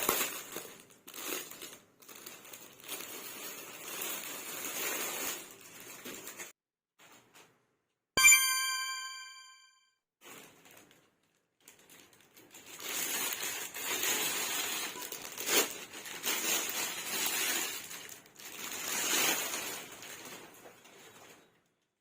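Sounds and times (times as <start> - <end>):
packaging crinkling: 0.0 - 6.5, 10.2 - 21.6.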